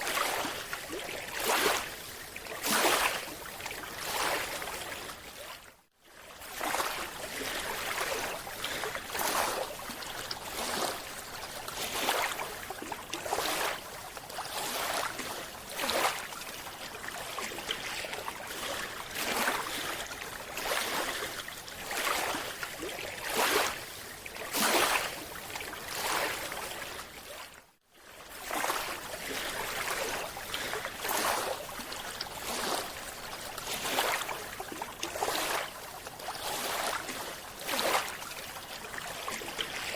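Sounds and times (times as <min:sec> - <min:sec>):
water rushing and sloshing: 0:00.0 - 0:39.9.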